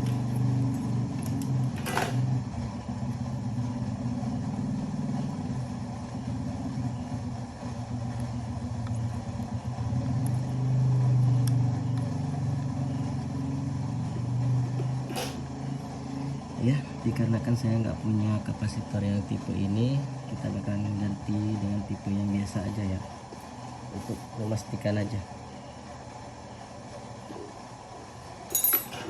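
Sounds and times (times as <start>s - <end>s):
low mechanical drone: 0.0s - 29.0s.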